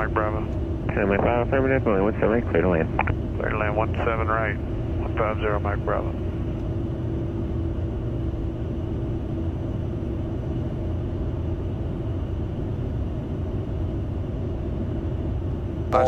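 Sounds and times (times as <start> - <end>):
jet engines and airflow rush: 0.0 - 16.0
steady cockpit hum: 0.0 - 16.0.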